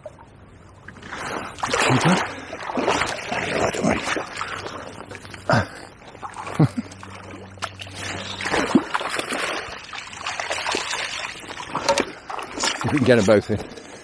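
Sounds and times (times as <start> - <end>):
fish splashing in water: 0.9 - 14.0.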